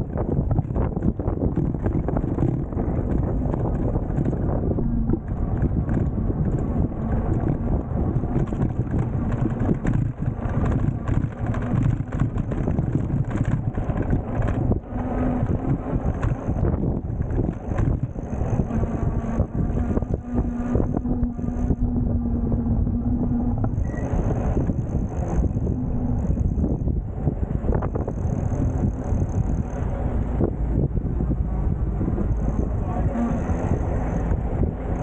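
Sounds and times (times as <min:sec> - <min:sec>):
road and tyre noise: 0:00.0 - 0:35.0
wind buffeting microphone: 0:00.0 - 0:35.0.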